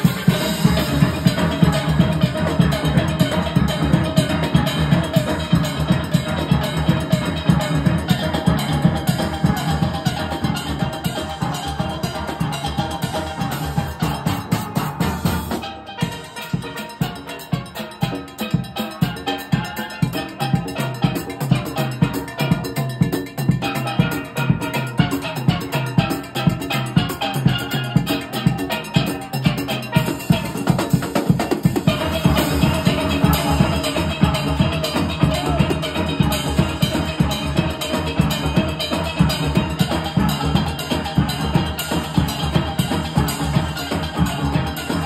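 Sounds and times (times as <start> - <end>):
drum kit: 0.0 - 45.0
steel pans playing fast tune: 0.0 - 45.0.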